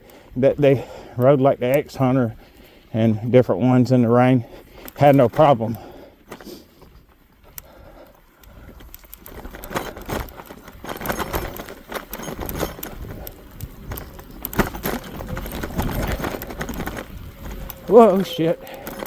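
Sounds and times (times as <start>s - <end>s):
bike knocking and rattling: 0.0s - 19.0s
bike tyres on snow: 0.0s - 19.0s.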